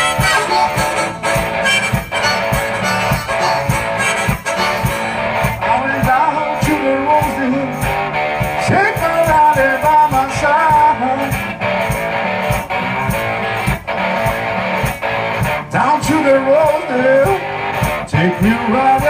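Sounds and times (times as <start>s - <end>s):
blues guitar: 0.0s - 19.0s
steady drum beat: 0.0s - 19.0s.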